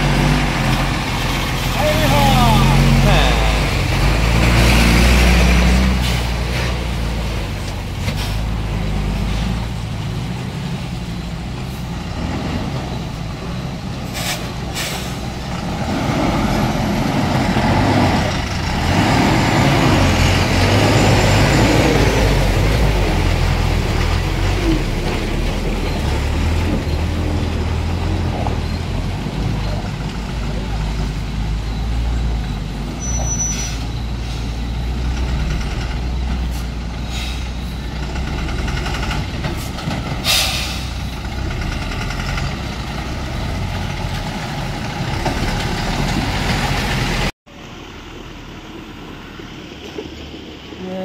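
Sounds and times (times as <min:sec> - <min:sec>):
heavy truck engines running: 0:00.0 - 0:51.0.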